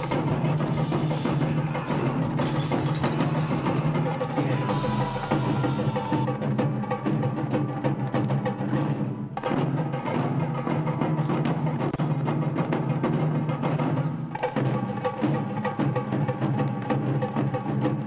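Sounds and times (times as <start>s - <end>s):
fast drum hits: 0.0s - 18.0s.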